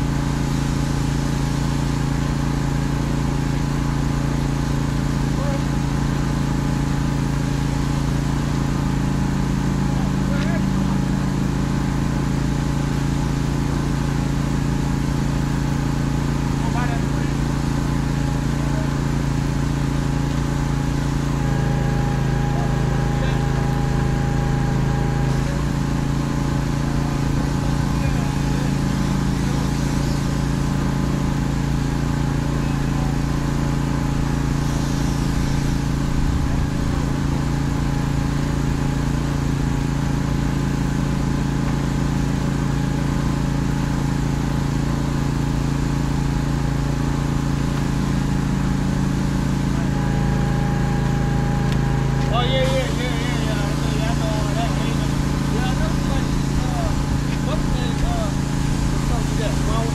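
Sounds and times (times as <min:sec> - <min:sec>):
engine running with low hum: 0:00.0 - 0:59.9
pressure washer spraying: 0:00.0 - 0:59.9.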